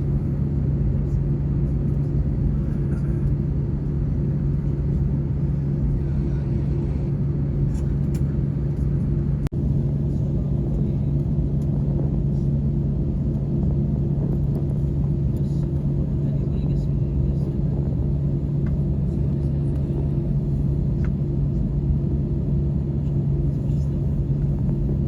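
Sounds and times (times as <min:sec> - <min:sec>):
jet cabin engine rumble: 0:00.0 - 0:25.0.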